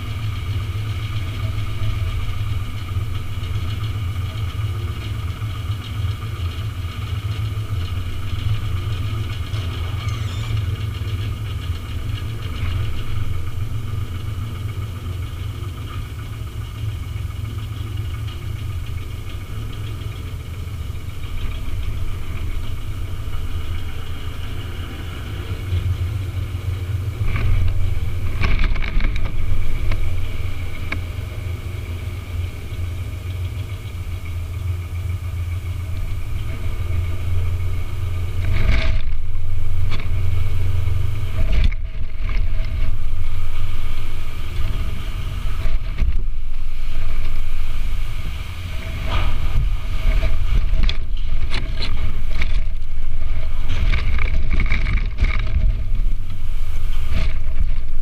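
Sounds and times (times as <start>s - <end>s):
dumper engine running: 0.0s - 58.0s.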